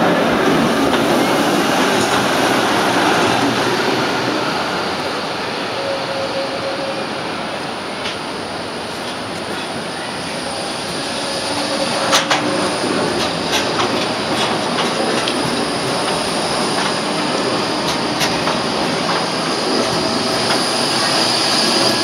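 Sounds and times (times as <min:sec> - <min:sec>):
tram wheels rolling: 0:00.0 - 0:05.1, 0:07.6 - 0:22.0.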